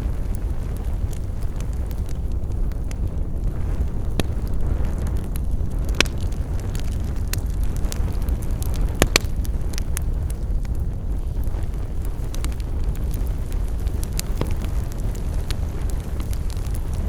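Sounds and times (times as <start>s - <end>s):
campfire wood crackling: 0.0s - 17.0s
low fire rumble: 0.0s - 17.0s.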